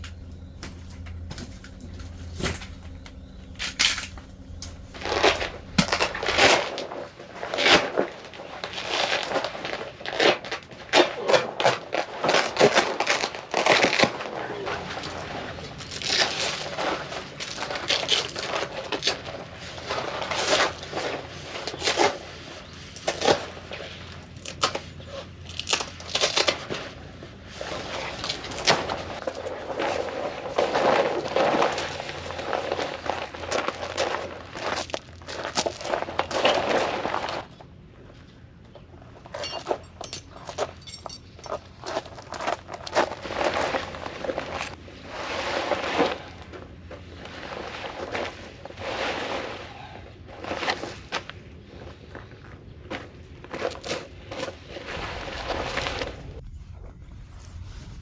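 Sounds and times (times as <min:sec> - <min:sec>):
rustling and crinkling: 0:00.0 - 0:49.7, 0:50.3 - 0:58.0.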